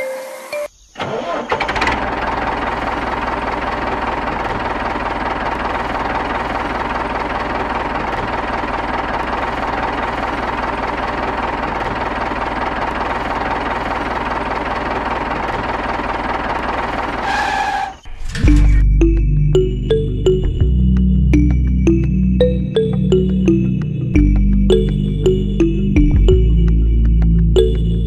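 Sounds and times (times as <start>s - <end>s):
tractor engine running: 1.0s - 28.0s.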